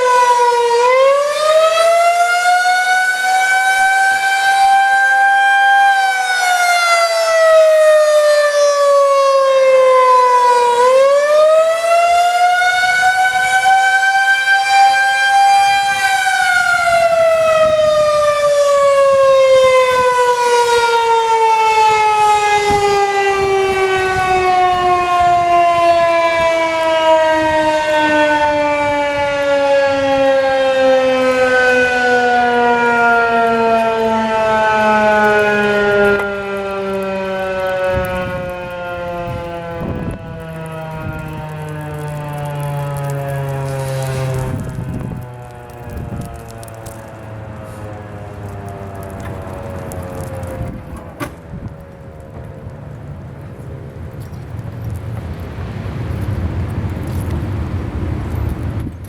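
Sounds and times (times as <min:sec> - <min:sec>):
warning siren wailing: 0:00.0 - 0:58.9.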